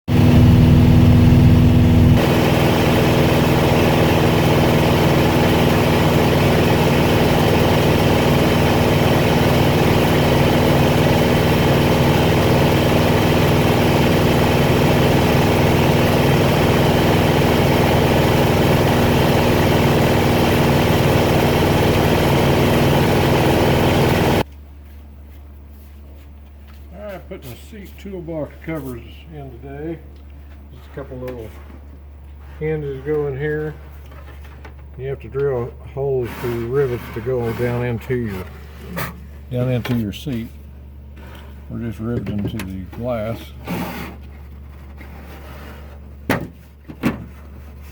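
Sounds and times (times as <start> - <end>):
engine running: 0.1 - 24.5, 26.4 - 45.2.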